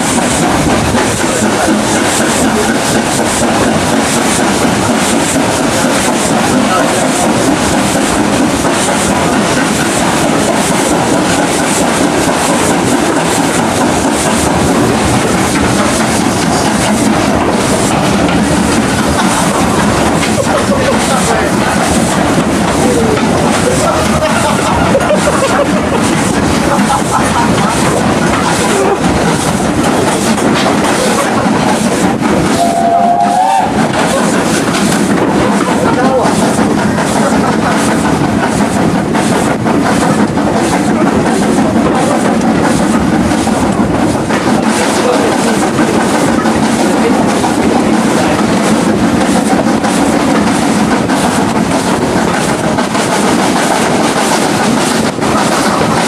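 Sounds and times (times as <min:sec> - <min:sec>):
train rumbling: 0:00.0 - 0:56.0
wheels clattering on rails: 0:00.0 - 0:56.0.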